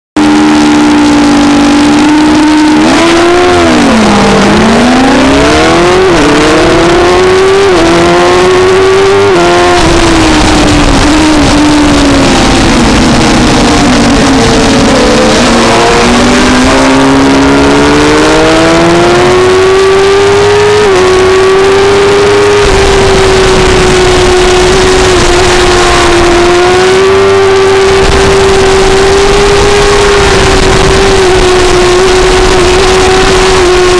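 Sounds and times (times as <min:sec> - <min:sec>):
motorcycle engine accelerating: 0:00.2 - 0:33.9
wind rushing over microphone: 0:00.2 - 0:33.9.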